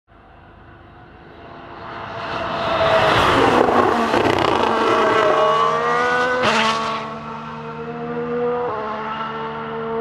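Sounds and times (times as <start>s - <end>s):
racing car engine at high revs: 1.2s - 10.0s.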